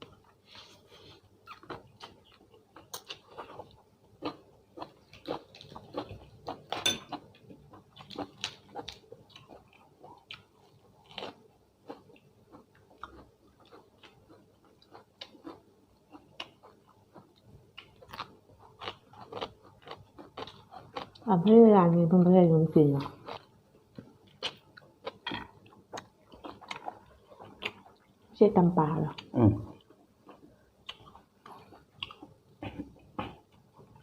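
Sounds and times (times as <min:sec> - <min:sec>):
person chewing and eating: 0:00.0 - 0:21.4, 0:23.0 - 0:28.3, 0:29.1 - 0:34.0.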